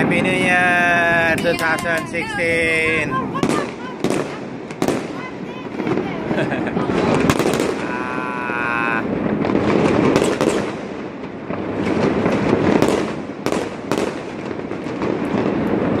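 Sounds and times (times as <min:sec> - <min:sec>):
firework bangs: 0:00.0 - 0:16.0
fireworks crackling: 0:00.0 - 0:16.0.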